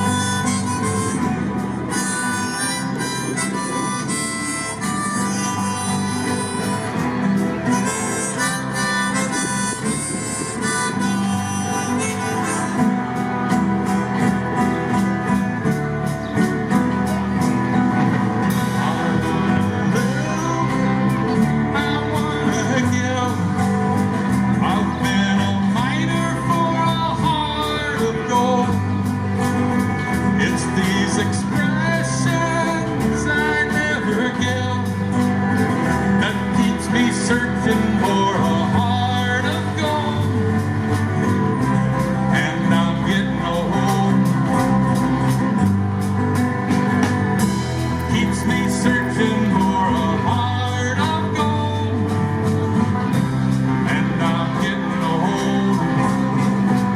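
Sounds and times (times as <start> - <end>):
live band playing instrumental: 0.0 - 56.9.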